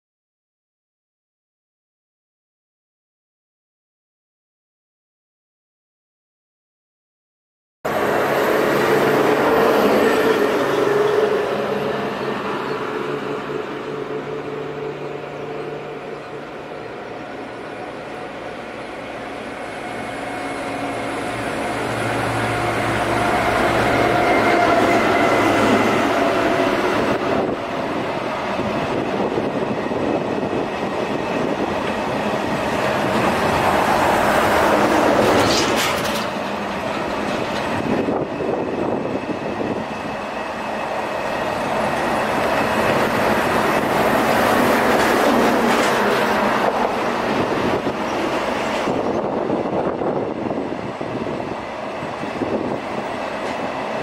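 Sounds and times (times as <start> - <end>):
freight train rumbling past: 7.9 - 54.0.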